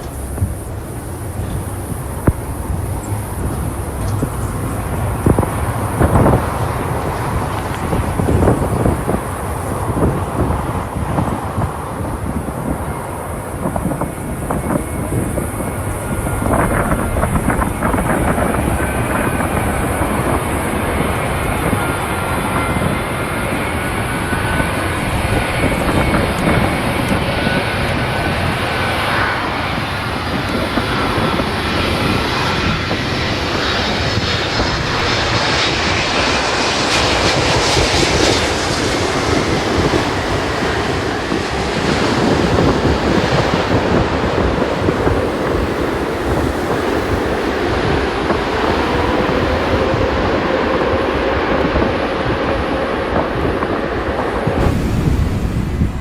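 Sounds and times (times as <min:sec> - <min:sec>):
airliner engines roaring: 0:00.0 - 0:56.0.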